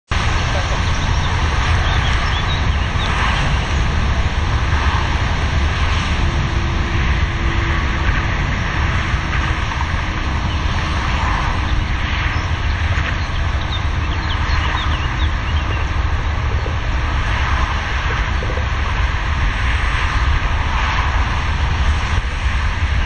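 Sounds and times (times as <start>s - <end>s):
distant motorway traffic rumble: 0.1s - 23.0s.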